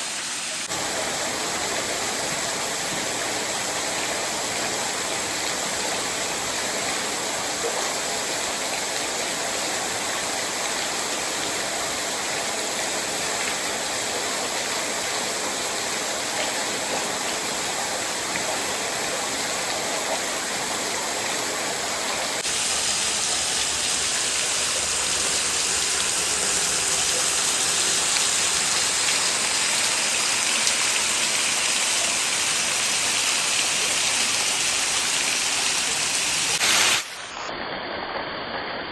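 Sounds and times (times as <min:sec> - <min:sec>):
waterfall splashing over rocks: 0:00.0 - 0:37.2.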